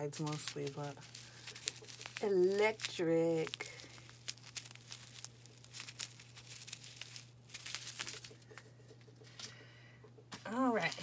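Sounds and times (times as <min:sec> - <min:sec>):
plastic packaging crinkling: 0:00.0 - 0:09.6
low steady hum: 0:00.0 - 0:11.0.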